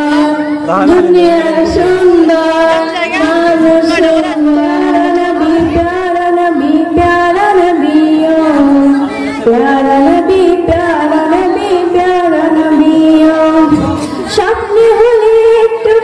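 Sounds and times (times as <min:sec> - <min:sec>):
solo voice singing devotional song: 0:00.0 - 0:16.0.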